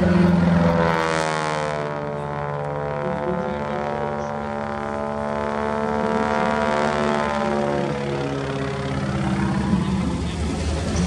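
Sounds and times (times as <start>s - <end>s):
biplane engine passing by: 0.0s - 11.0s.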